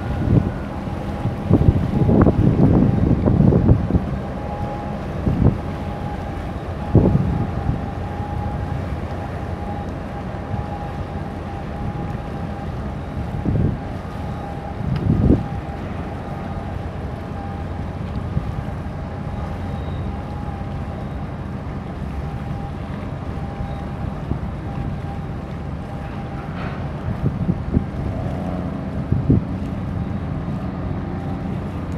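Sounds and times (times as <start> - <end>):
boat engine rumbling: 0.0 - 31.9
wind buffeting microphone: 0.0 - 31.9.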